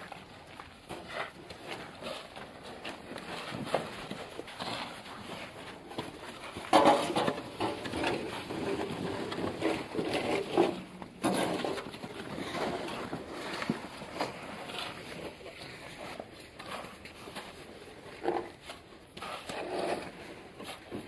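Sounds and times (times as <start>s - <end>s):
shovels scraping wet snow: 0.9s - 21.0s.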